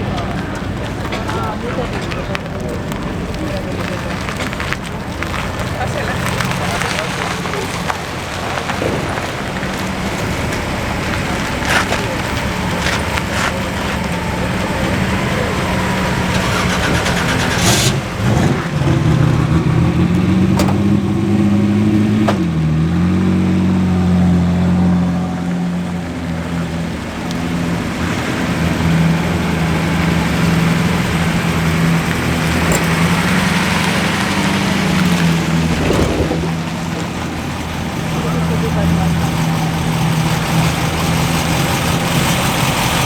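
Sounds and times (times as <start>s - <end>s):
car engine running: 0.0s - 43.0s.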